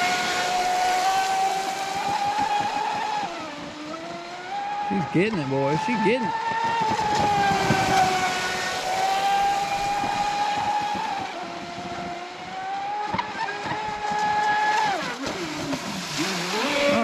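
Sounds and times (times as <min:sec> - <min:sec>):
rc boat electric motor whining: 0:00.0 - 0:17.0.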